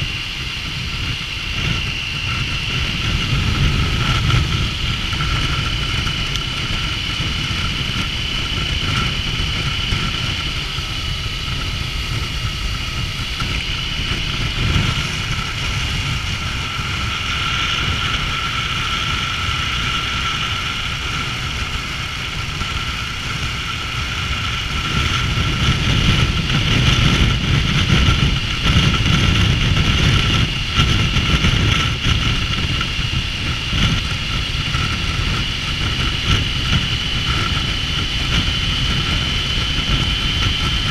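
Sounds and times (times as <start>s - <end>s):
motorcycle engine running: 0.0s - 40.9s
thin high whine: 0.0s - 40.9s.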